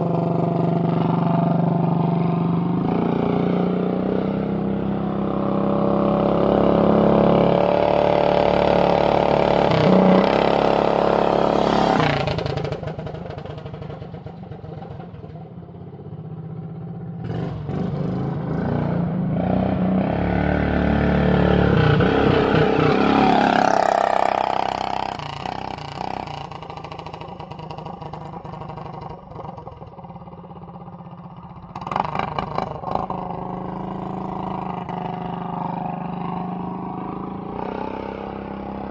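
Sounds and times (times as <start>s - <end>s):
minibike engine passing by: 0.0s - 38.9s.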